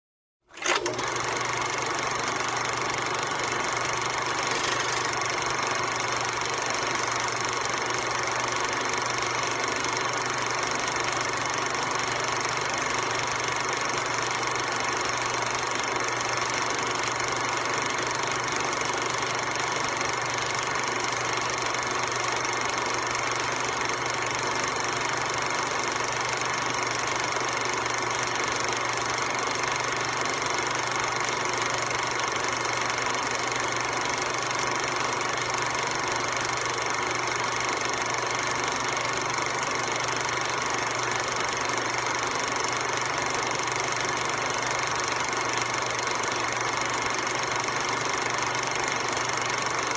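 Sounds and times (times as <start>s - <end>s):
film projector whir and clatter: 0.5s - 49.9s.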